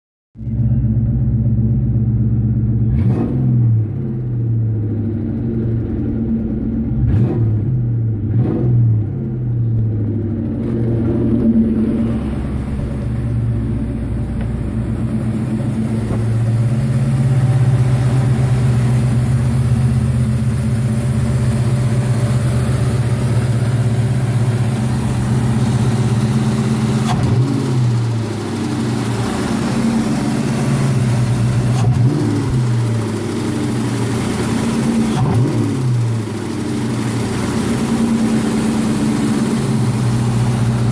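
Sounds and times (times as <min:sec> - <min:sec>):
car engine idling: 0:00.4 - 0:03.1, 0:03.8 - 0:40.9
engine throttle blips: 0:00.4 - 0:40.9.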